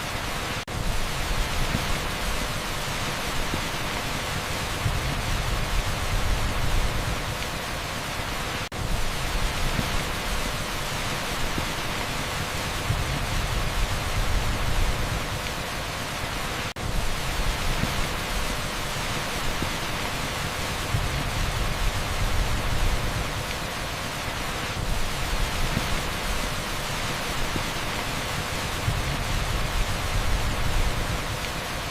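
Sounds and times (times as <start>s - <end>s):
torrential rain on asphalt: 0.0s - 31.9s.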